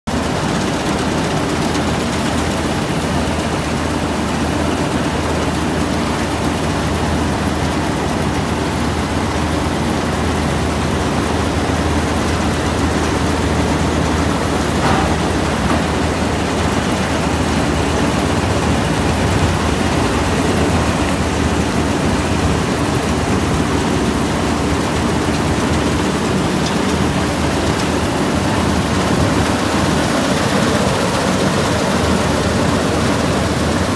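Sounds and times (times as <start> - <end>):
engine drone: 0.1 - 33.9.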